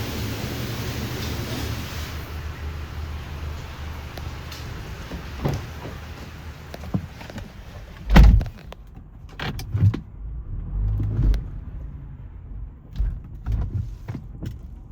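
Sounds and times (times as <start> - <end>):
car engine low rumble: 1.0 - 14.9.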